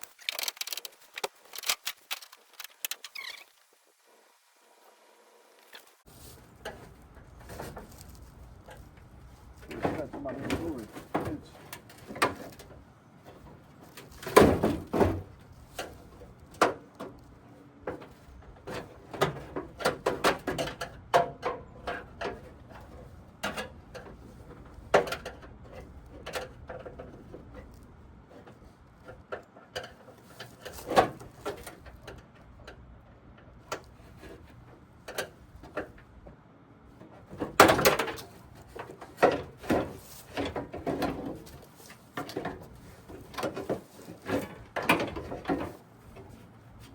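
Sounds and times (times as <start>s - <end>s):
tools clanking on truck parts: 6.1s - 36.4s, 37.0s - 46.9s.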